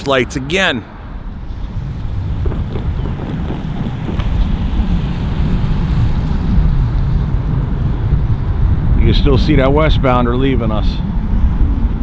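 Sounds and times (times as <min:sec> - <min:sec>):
wind buffeting microphone: 0:01.7 - 0:12.0.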